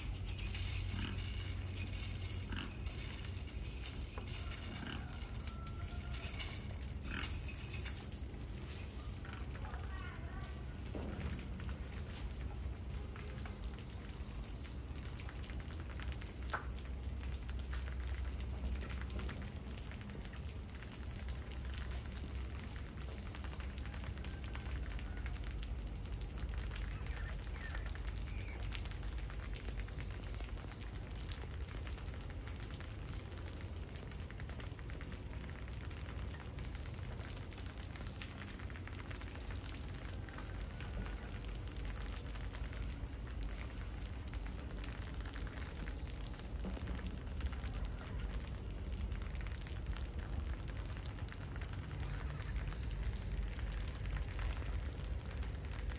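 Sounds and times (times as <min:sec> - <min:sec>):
mice chewing rice grains: 0:00.0 - 0:55.9.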